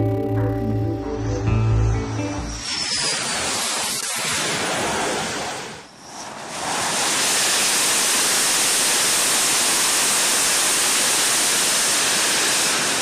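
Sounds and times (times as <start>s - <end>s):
jet engine roar: 1.0s - 13.0s.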